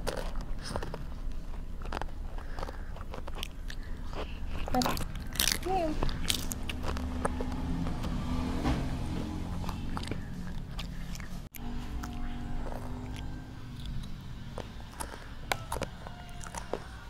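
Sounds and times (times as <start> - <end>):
child crunching snack: 0.0 - 8.6, 9.4 - 17.0.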